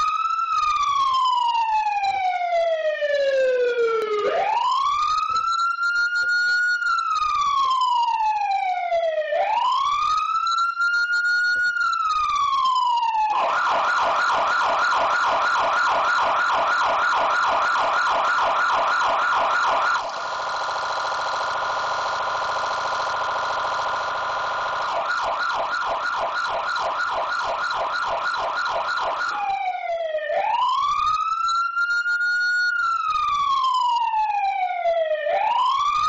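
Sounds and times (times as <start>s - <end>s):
fire truck siren wailing and yelping: 0.0s - 36.0s.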